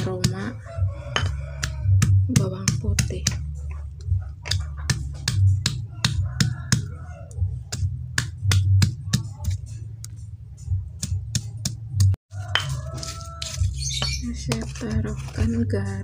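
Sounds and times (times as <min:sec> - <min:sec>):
stone pestle pounding on mortar: 0:00.0 - 0:09.7, 0:10.8 - 0:16.0.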